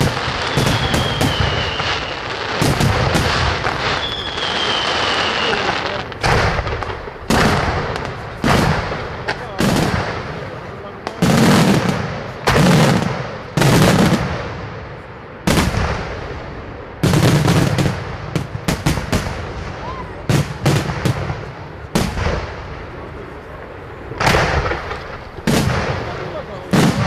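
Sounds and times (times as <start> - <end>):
firework shells booming: 0.0 - 23.4, 24.1 - 27.0.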